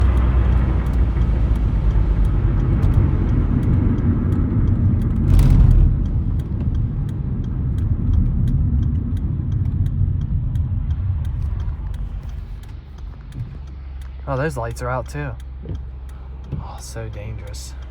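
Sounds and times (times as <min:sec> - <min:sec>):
car road and engine rumble: 0:00.0 - 0:17.9.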